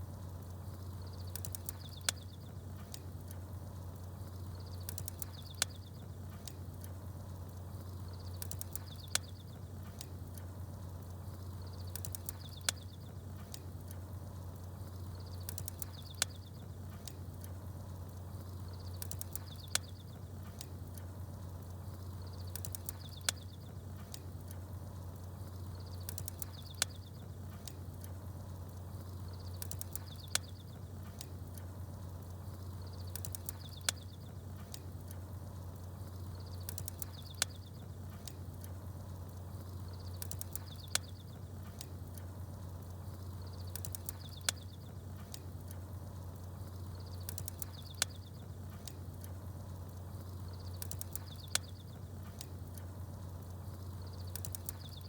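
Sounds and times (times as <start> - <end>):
campfire crackling: 0.0 - 55.0
small birds chirping: 0.2 - 55.0.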